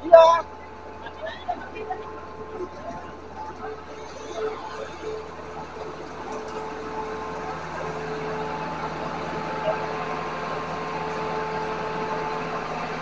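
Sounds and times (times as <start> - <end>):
fire engine motor and pump hum: 0.0 - 13.0.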